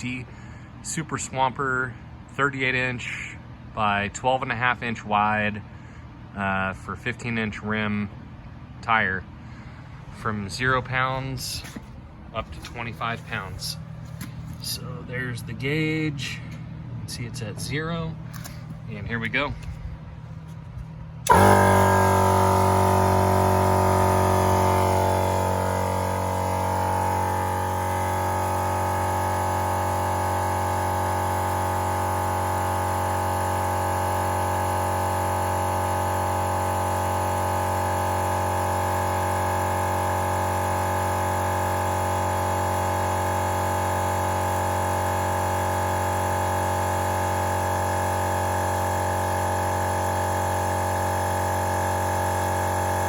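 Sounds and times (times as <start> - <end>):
air compressor droning: 0.0 - 53.0.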